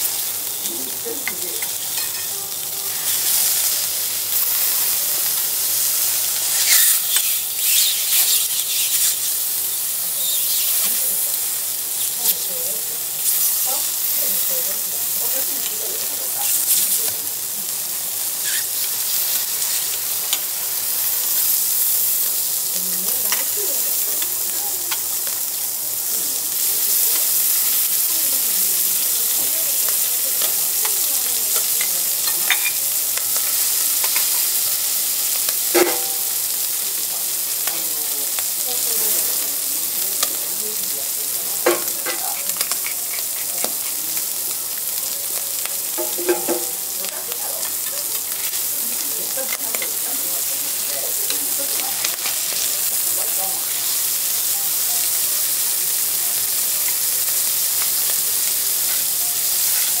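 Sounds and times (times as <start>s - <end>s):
metal utensils clinking on griddle: 0.0s - 5.5s, 6.2s - 9.3s, 10.2s - 17.3s, 18.2s - 20.6s, 22.8s - 54.0s, 56.6s - 60.0s
food sizzling on griddle: 0.0s - 60.0s.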